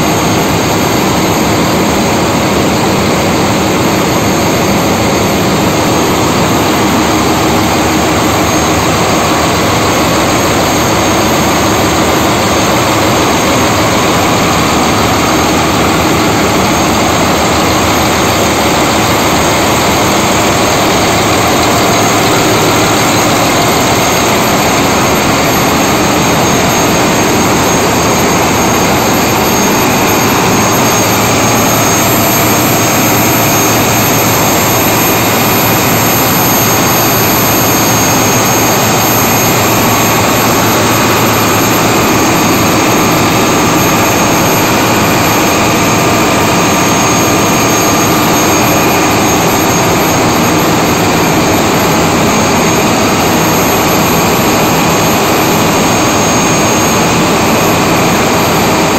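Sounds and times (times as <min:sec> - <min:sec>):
diesel machinery running: 0:00.0 - 0:58.9.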